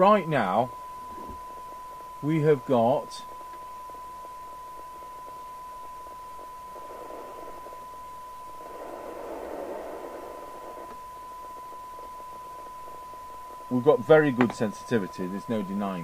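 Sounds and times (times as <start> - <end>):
radio receiver hiss: 0.0 - 16.0
steady test tone: 0.0 - 16.0.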